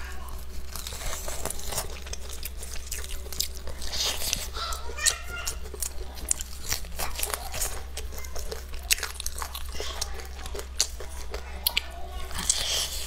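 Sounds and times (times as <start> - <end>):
fried chicken crunching when chewed: 0.0 - 13.0.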